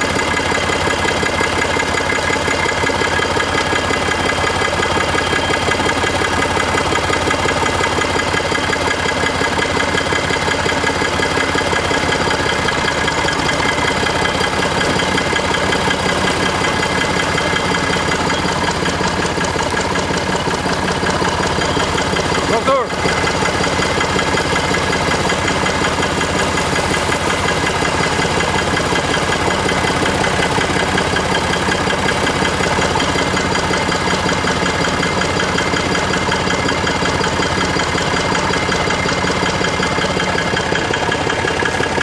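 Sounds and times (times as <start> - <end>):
tractor engine chugging: 0.0 - 42.0.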